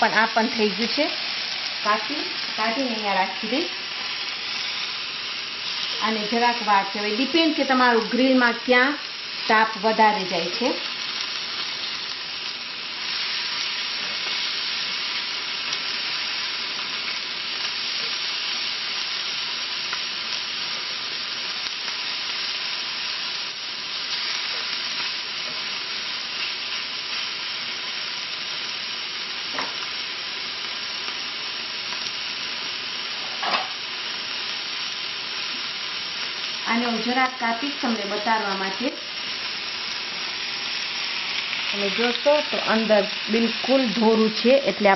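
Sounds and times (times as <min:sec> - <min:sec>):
chicken sizzling on a grill pan: 0:00.0 - 0:44.9.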